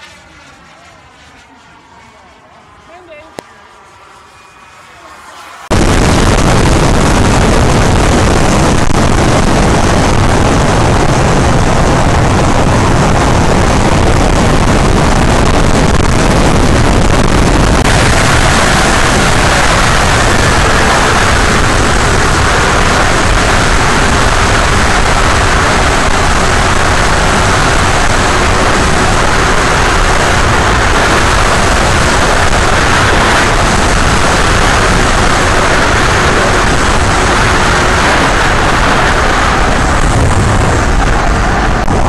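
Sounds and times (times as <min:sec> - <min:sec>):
air rush and propeller noise: 0:00.0 - 0:42.0.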